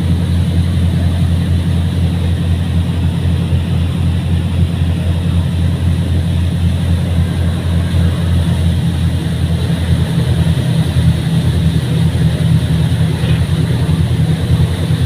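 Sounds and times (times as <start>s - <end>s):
ferry engines droning: 0.0s - 15.0s.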